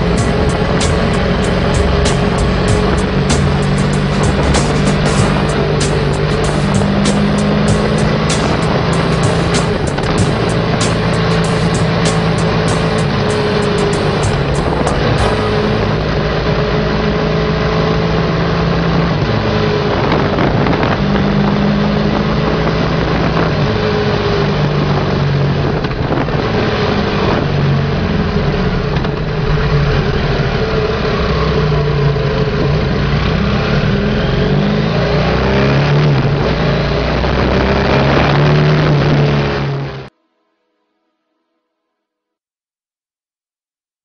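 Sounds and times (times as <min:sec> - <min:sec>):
motorcycle engine running: 0:00.0 - 0:40.1
wind and road noise: 0:00.0 - 0:40.1.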